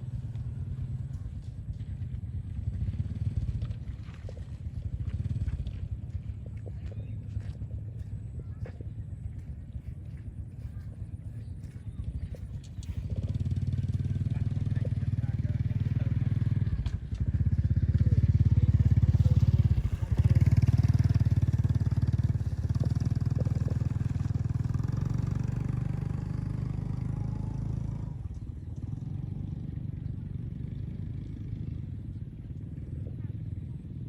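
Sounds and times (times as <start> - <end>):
small engine running: 0.0 - 34.0.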